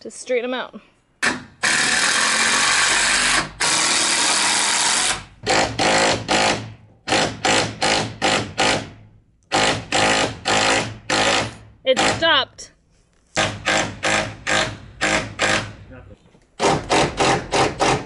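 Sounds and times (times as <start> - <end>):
power drill driving screws: 1.2 - 12.2, 13.4 - 15.8, 16.6 - 18.0.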